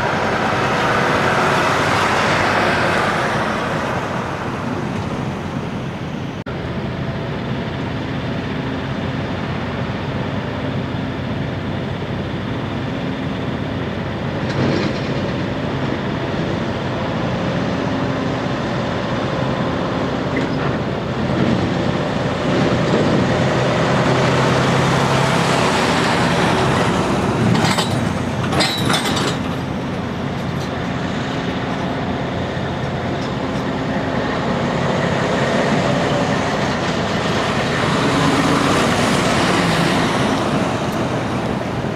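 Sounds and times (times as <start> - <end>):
diesel truck engines passing: 0.0 - 41.9.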